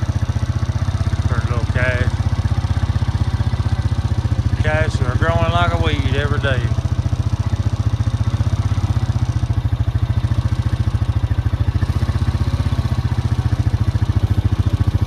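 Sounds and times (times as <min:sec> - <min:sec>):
vehicle engine chugging: 0:00.0 - 0:15.0.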